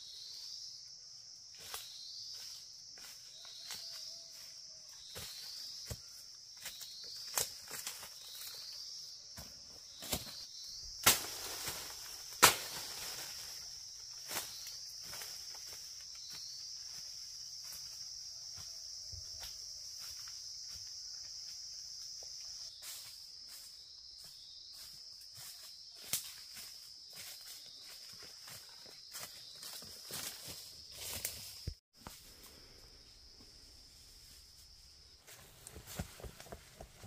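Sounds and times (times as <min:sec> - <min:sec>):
high-pitched insect chorus: 0:00.0 - 0:36.6.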